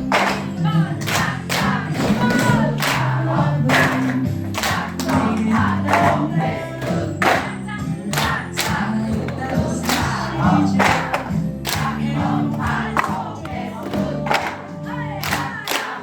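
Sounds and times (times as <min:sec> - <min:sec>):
cups tapped in rhythm: 0:00.0 - 0:16.0
pop song with backing vocals: 0:00.0 - 0:16.0.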